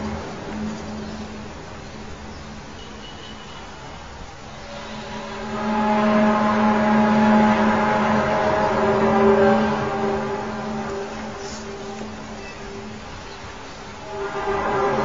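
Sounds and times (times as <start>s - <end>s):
low humming drone: 0.0s - 2.8s, 4.4s - 15.0s.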